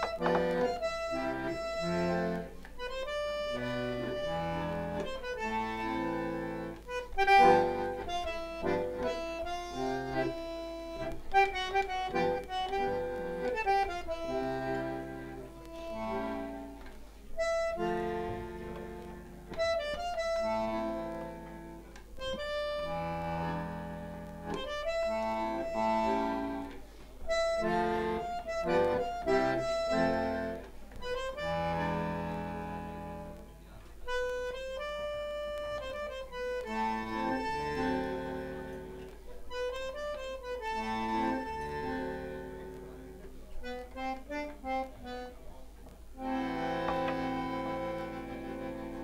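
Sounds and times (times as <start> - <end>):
bandoneon playing: 0.0 - 16.8, 17.4 - 33.5, 34.1 - 45.4, 46.2 - 49.0.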